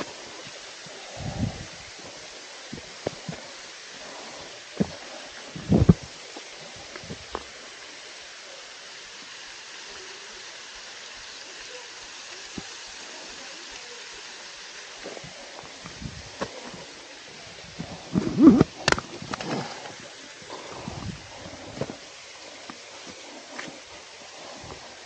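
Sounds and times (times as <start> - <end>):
rushing falling water: 0.0 - 25.0.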